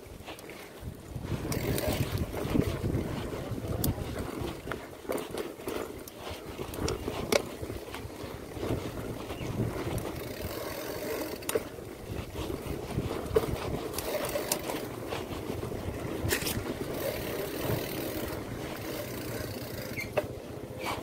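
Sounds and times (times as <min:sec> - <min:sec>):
bike rattling: 0:00.0 - 0:21.0
bike tyres rolling on dirt: 0:00.0 - 0:21.0.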